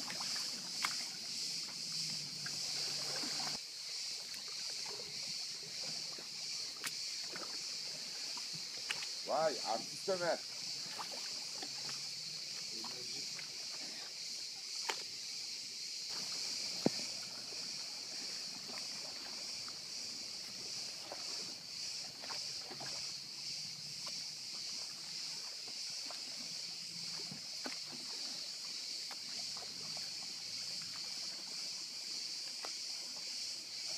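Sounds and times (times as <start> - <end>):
knocks and splashes of rowing: 0.0 - 15.4, 16.0 - 33.9
cicadas buzzing: 0.0 - 33.9.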